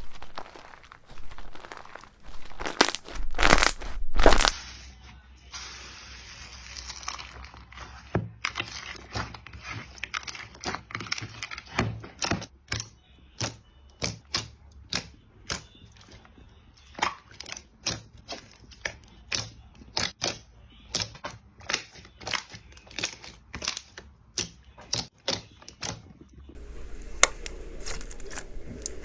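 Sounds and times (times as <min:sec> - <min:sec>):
hands squishing slime: 0:00.0 - 0:04.9, 0:05.7 - 0:16.2, 0:16.8 - 0:26.3.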